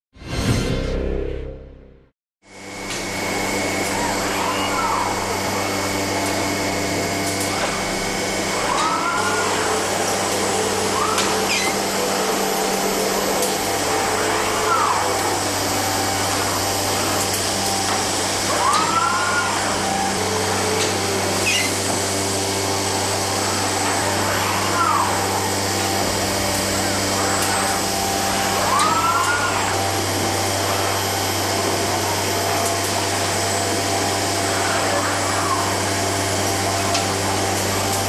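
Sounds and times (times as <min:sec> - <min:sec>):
machine hum and hiss: 0:02.5 - 0:38.0
robot arm drive whine: 0:02.5 - 0:38.0.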